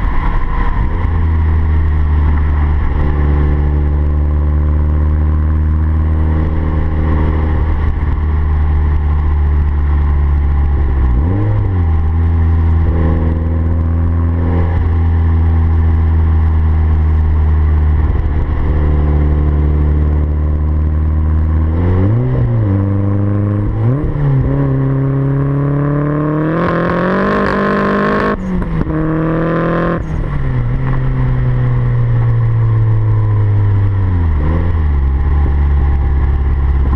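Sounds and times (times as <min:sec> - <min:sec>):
turbocharged car engine revving: 0:00.0 - 0:36.9.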